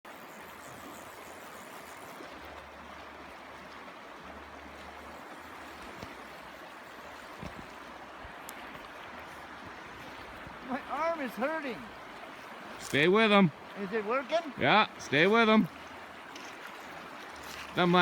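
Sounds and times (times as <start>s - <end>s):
river water rushing: 0.1s - 18.0s.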